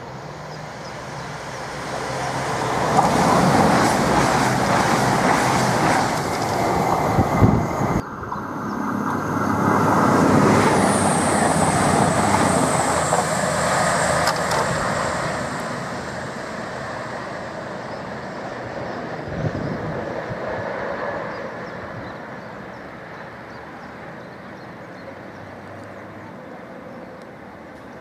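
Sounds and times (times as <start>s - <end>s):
train engines rumbling: 0.0s - 28.0s.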